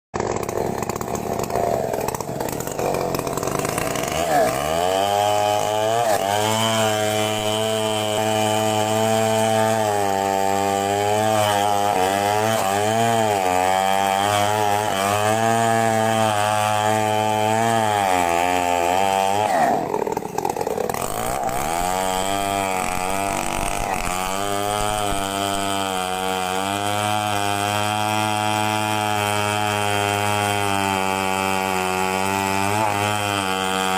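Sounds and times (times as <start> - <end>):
chainsaw engine cutting: 0.2 - 33.9.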